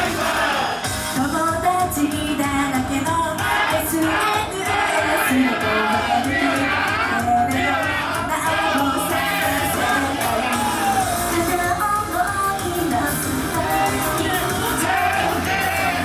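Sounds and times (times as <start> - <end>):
female voices singing: 0.0 - 16.0
loud amplified pop music: 0.0 - 16.0.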